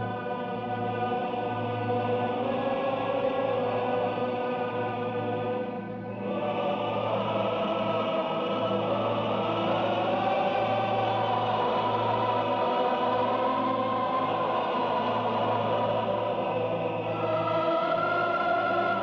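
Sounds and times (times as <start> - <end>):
choir singing sustained chords: 0.0 - 19.0.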